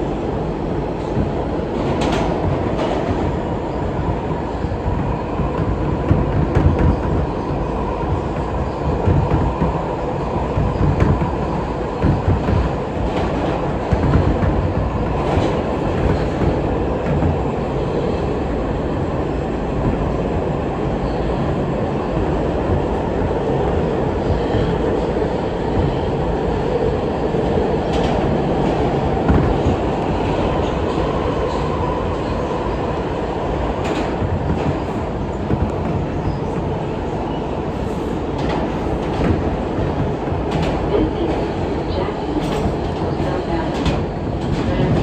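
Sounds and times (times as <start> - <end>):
subway train wheels rumbling on rail: 0.0 - 45.0.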